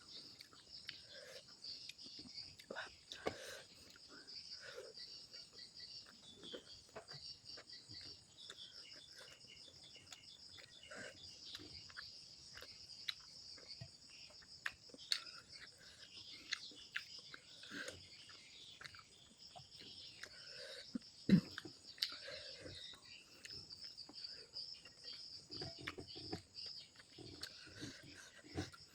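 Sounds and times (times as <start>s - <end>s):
insects chirring: 0.0s - 28.9s
person eating by hand: 0.0s - 28.9s.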